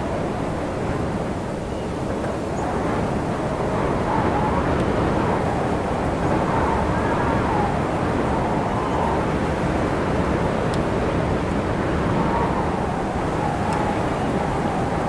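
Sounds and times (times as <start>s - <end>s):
wind blowing: 0.0s - 15.0s
wind whistle: 0.0s - 15.0s.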